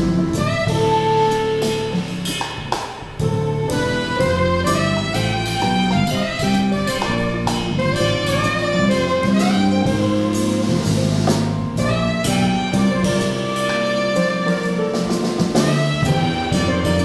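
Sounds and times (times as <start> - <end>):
saxophone: 0.0 - 2.4, 3.2 - 17.0
bass: 0.0 - 17.0
drum kit with cymbals: 0.0 - 17.0
grand piano: 0.0 - 17.0.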